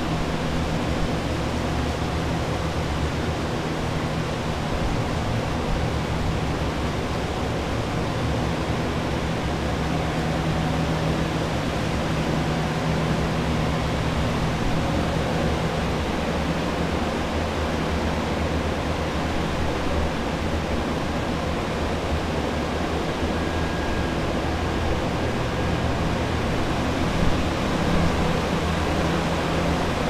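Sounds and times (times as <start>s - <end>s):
low motor hum: 0.0s - 30.0s
steady rush of air: 0.0s - 30.0s.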